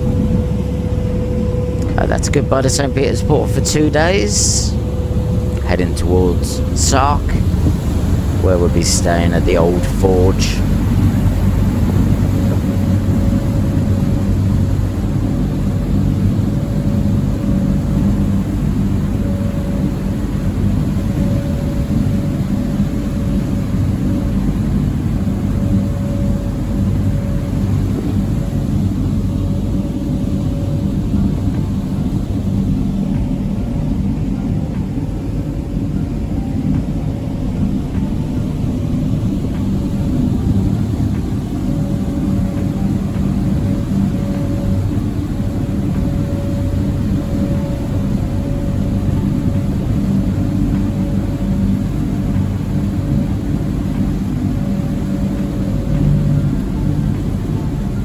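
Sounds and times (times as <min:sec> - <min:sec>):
faint steady hum: 0:00.0 - 0:58.0
ferry engines droning: 0:00.0 - 0:58.0
rush of wind and water: 0:00.0 - 0:58.0.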